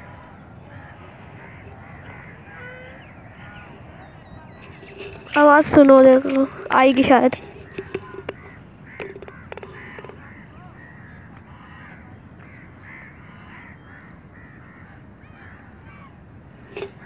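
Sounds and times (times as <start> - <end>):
distant bird calls: 0.0 - 17.0.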